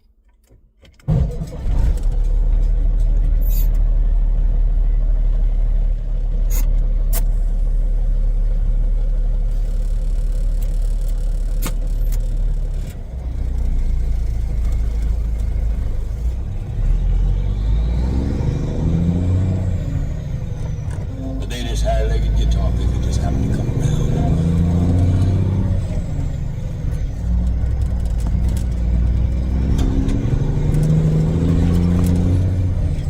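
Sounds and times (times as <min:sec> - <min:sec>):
diesel truck engine rumbling: 0:01.1 - 0:33.0.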